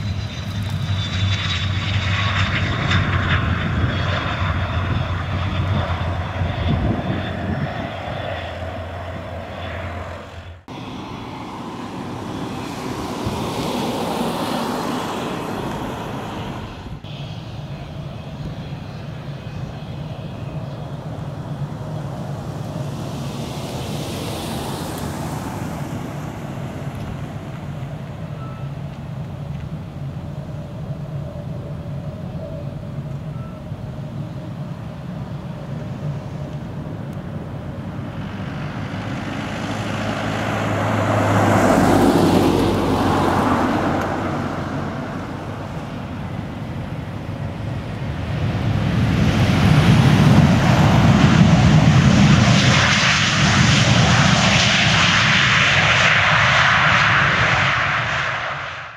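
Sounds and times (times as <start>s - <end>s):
jet airliner engines landing: 0.0s - 58.9s.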